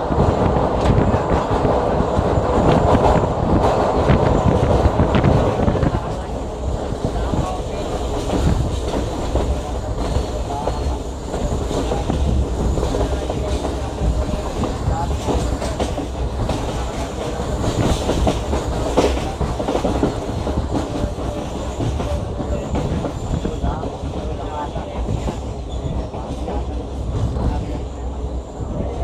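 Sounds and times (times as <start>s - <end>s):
train carriage rumbling: 0.0s - 29.0s.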